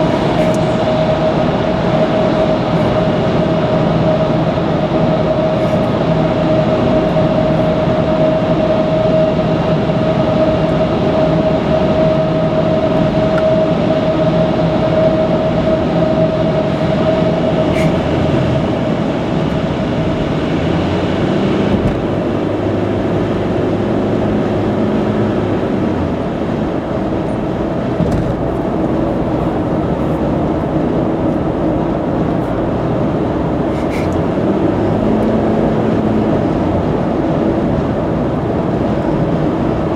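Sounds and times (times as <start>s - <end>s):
engine and tyre roar: 0.0s - 39.9s
faint held whine: 0.0s - 39.9s.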